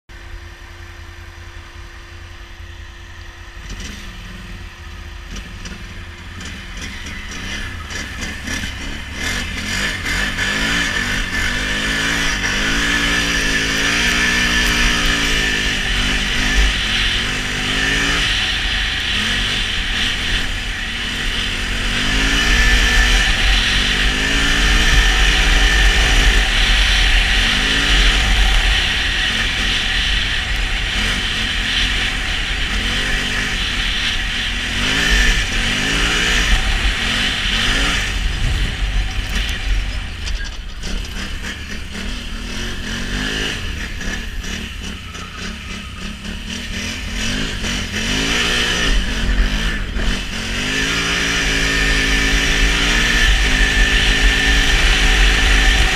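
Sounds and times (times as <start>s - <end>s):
atv engine revving: 0.2s - 55.9s.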